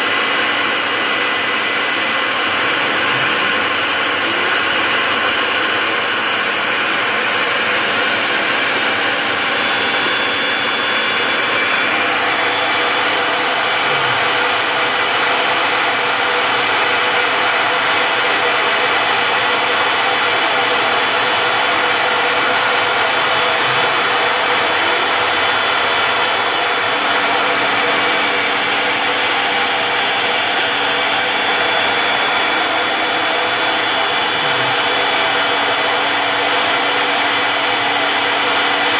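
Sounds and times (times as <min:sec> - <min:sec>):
router spindle whine: 0:00.0 - 0:38.9
bit cutting wood: 0:00.6 - 0:38.9.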